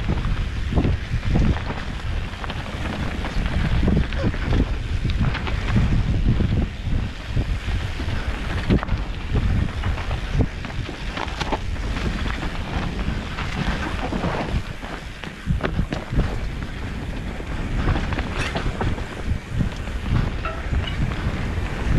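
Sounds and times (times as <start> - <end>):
mountain bike rumble and rattle: 0.0 - 21.9
wind buffeting microphone: 0.0 - 21.9.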